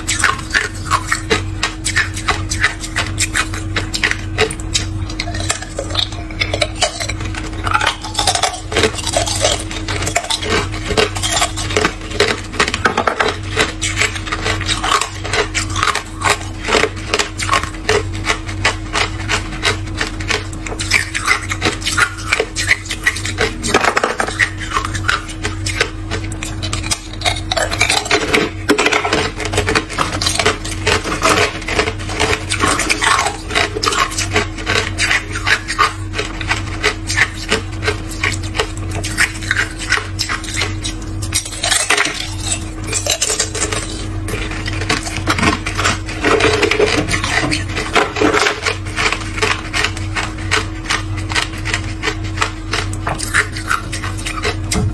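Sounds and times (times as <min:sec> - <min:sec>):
ice crunching being chewed: 0:00.0 - 0:54.9.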